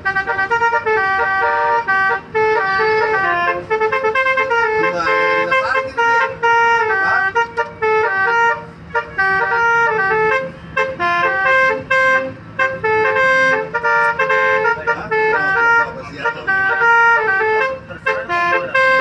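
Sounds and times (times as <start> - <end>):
bus horn playing a tune: 0.0 - 19.0.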